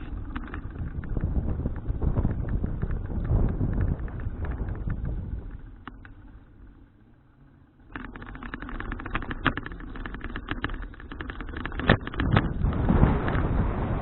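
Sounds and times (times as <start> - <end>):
bicycle rattling over rough ground: 0.0 - 14.0.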